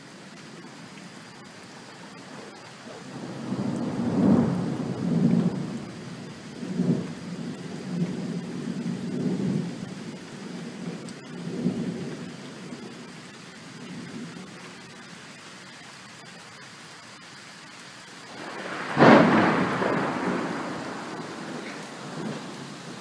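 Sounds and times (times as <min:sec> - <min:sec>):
steady rain: 0:00.0 - 0:23.0
thunder rumbling: 0:00.6 - 0:15.0, 0:18.2 - 0:23.0.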